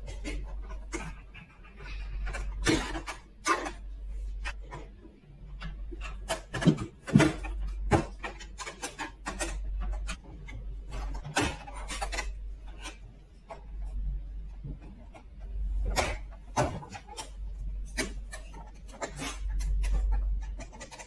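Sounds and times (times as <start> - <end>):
light plastic rubbing: 0.0 - 21.0.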